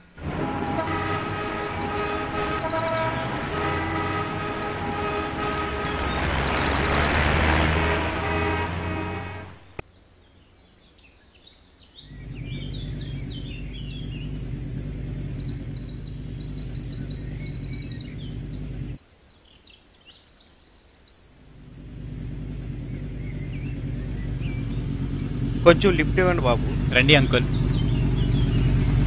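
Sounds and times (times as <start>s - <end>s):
motorcycle engine running: 0.0s - 9.8s, 12.0s - 19.0s, 21.4s - 29.0s
birds chirping and trilling: 0.0s - 29.0s.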